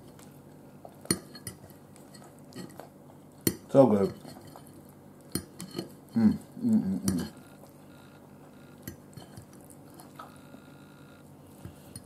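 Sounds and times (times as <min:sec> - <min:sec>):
low room hum: 0:00.0 - 0:12.0
fork scraping a plate: 0:01.1 - 0:02.8, 0:03.9 - 0:12.0.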